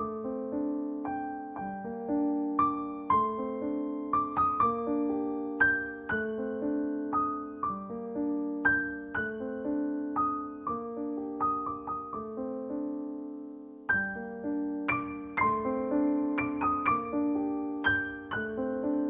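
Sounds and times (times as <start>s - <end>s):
slow gentle piano melody: 0.0s - 19.0s.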